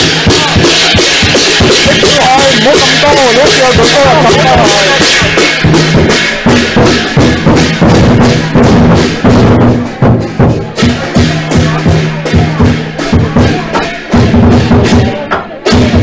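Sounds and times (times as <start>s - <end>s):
crashing cymbals: 0.0s - 16.0s
large drum beating: 0.0s - 16.0s.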